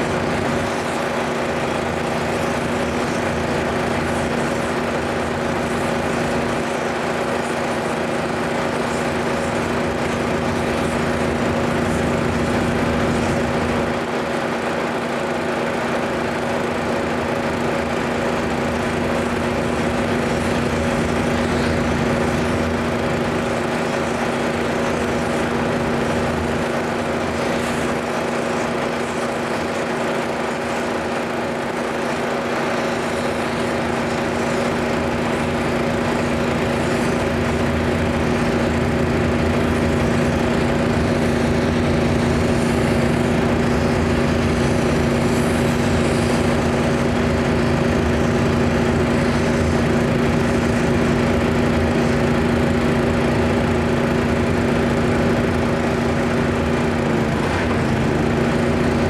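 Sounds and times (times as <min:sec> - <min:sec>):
pressure washer engine droning: 0:00.0 - 0:59.0.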